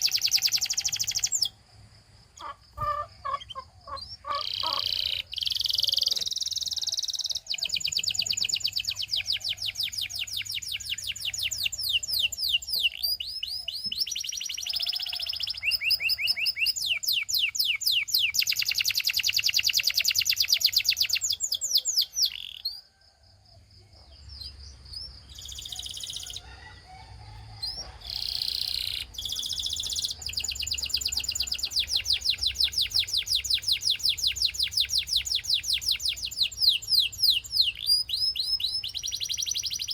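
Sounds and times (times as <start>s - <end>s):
canary singing trills: 0.0s - 23.0s, 24.0s - 39.9s.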